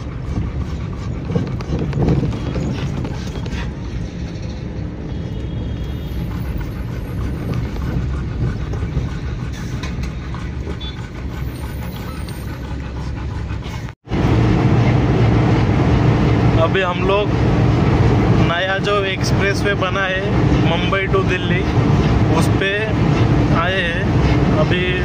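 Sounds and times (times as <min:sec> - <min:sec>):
engine and road rumble in van: 0:00.0 - 0:25.0.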